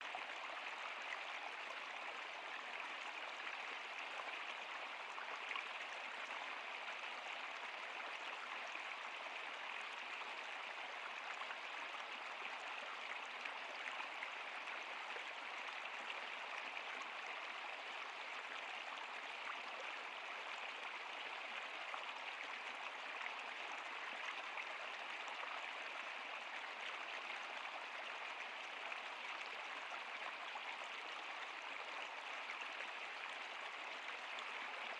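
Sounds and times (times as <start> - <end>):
water flowing over rocks: 0.0 - 34.9.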